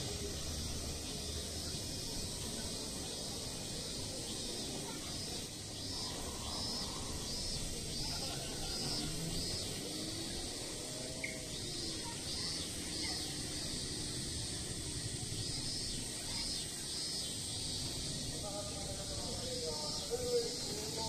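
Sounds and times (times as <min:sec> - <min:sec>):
insects chirring: 0:00.0 - 0:21.0
steady high hiss: 0:00.0 - 0:21.0.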